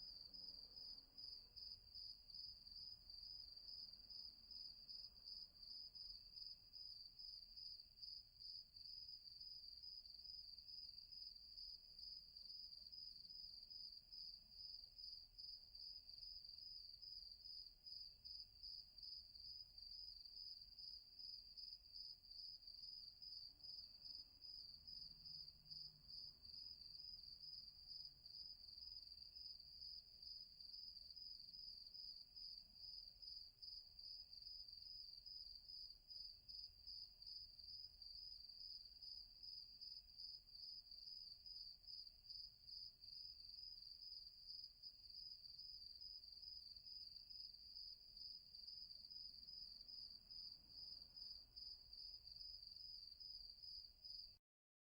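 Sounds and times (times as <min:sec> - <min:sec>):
crickets chirping: 0:00.0 - 0:54.3.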